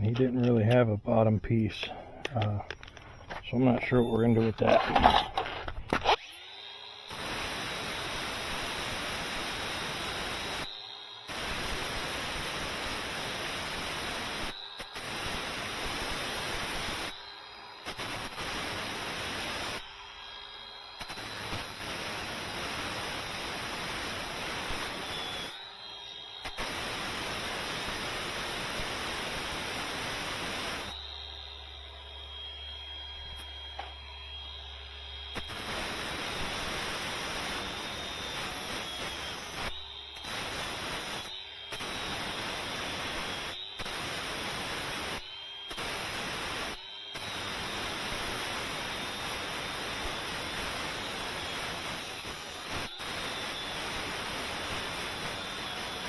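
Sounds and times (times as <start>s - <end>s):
loud hissing rust cleaning tool: 6.8s - 31.0s, 35.3s - 56.0s.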